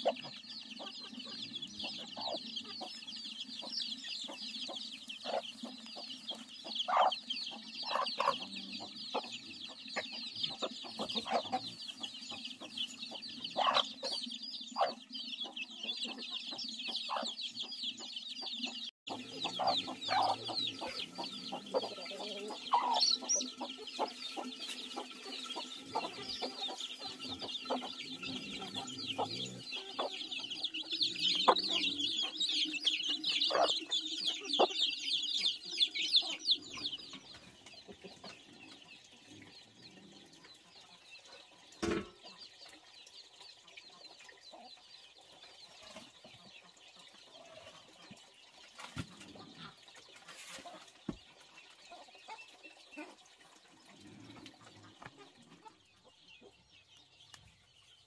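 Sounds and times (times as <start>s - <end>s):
hens clucking: 0.0s - 42.9s, 43.6s - 57.4s
chicks peeping: 0.0s - 58.0s.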